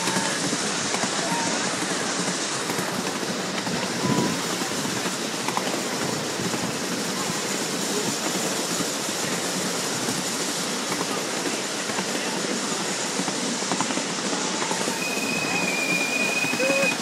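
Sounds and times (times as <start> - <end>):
small steam train running: 0.0 - 17.0
wheels clicking on rails: 0.0 - 17.0.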